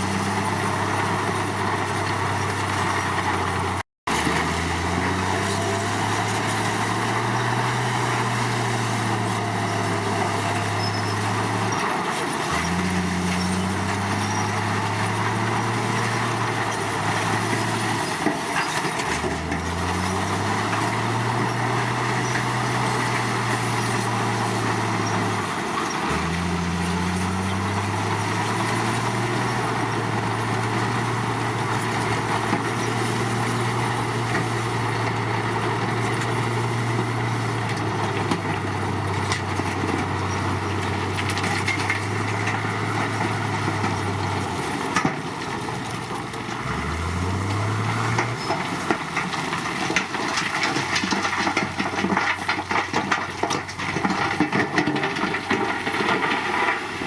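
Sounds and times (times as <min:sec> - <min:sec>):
bulldozer diesel engine: 0:00.0 - 0:57.0
metallic clatter of crawler tracks: 0:00.0 - 0:57.0.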